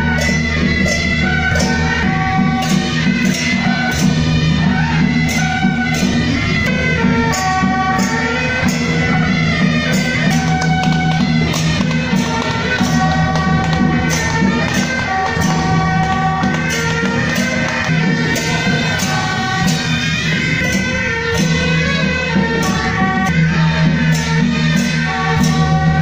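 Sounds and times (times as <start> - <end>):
band playing held notes melody: 0.0 - 26.0
steady drumming: 0.0 - 26.0.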